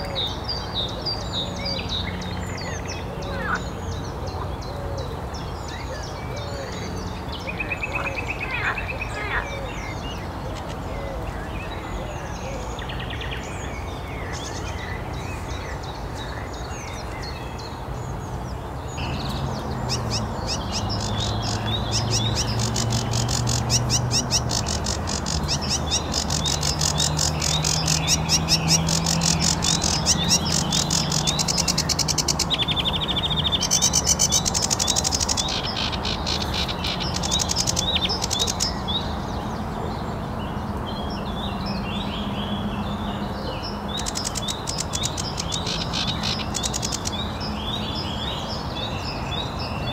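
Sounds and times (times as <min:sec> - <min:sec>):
warbler singing: 0:00.0 - 0:49.9.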